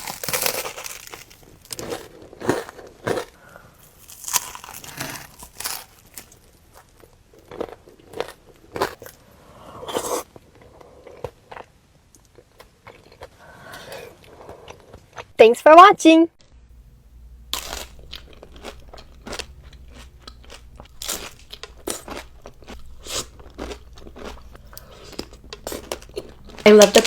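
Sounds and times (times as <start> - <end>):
person chewing crunchy food: 0.0 - 15.3, 17.5 - 26.6.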